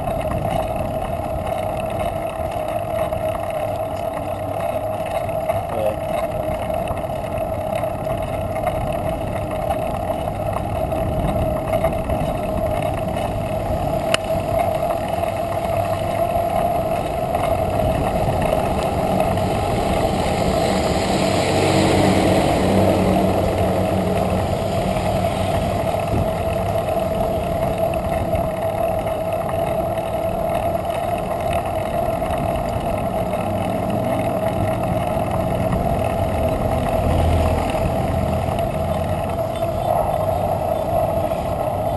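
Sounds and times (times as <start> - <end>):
wind rush on microphone: 0.0 - 3.4, 6.4 - 41.9
constant whirring hum: 0.0 - 41.9
road noise: 0.0 - 41.9.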